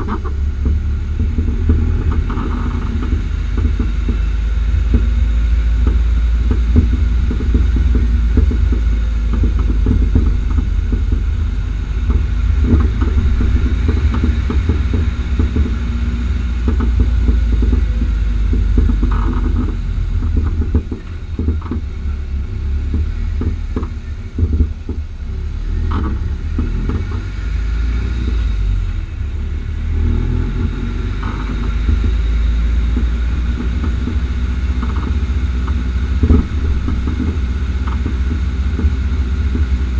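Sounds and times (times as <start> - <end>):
suspension pops and knocks: 0.0 - 28.6, 29.6 - 39.9
low road and engine rumble: 0.0 - 39.9.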